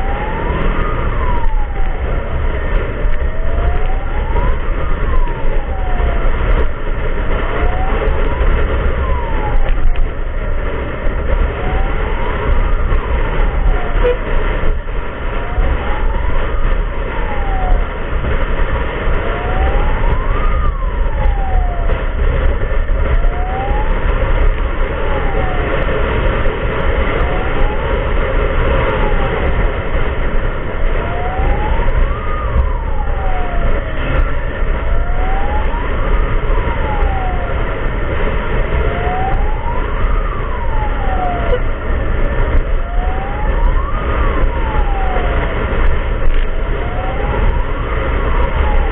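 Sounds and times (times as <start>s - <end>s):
emergency siren wailing: 0.0s - 48.9s
vehicle and road noise rumble: 0.0s - 48.9s.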